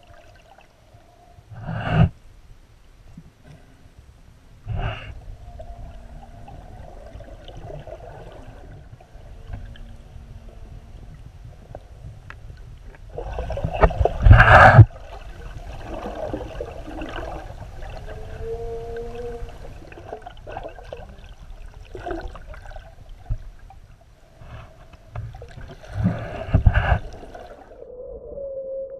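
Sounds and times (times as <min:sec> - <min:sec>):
underwater rumble and gurgling: 0:00.0 - 0:28.9.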